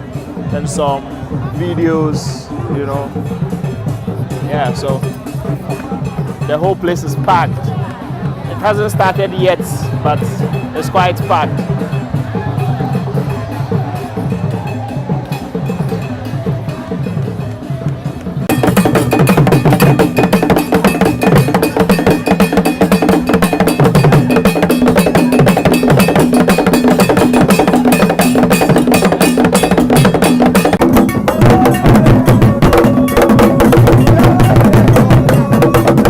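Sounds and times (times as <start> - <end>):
fast percussion music: 0.0 - 36.0.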